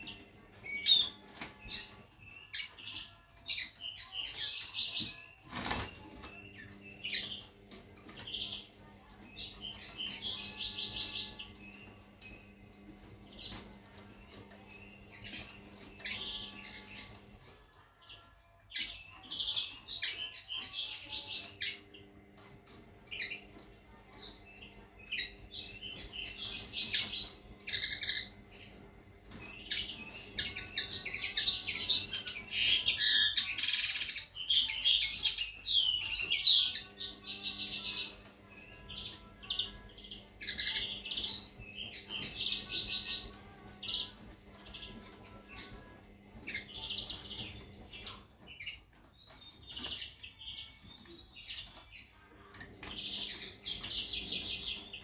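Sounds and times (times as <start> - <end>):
bird twittering and trilling: 0.0 - 55.0.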